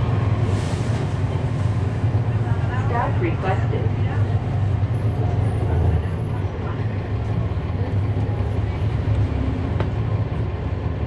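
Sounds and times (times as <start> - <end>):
bus engine drone: 0.0 - 11.0
cabin and road noise: 0.0 - 11.0.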